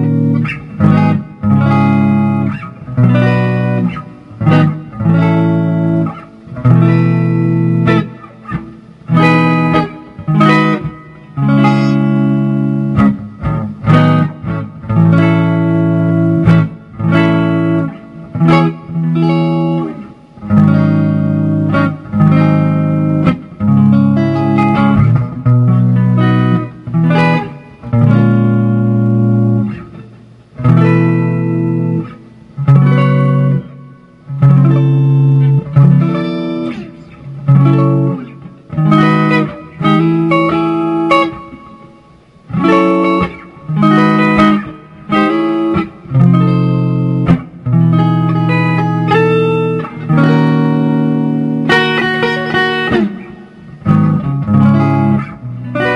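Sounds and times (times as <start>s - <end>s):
clean electric guitar chords: 0.0s - 55.9s.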